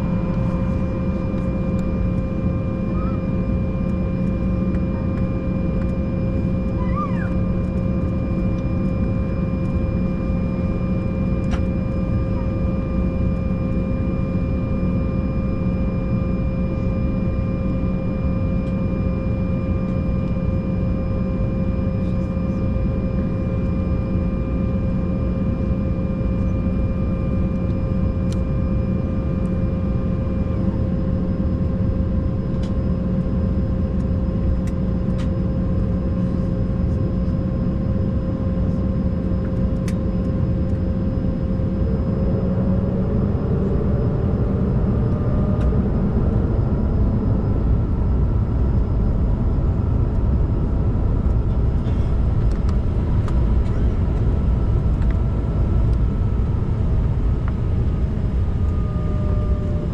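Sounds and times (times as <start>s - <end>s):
airliner cabin hum: 0.0s - 59.9s.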